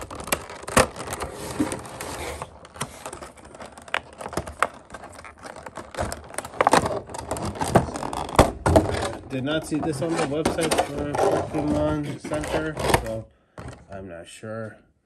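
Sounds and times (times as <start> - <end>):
scraping and rustling: 0.0 - 13.2.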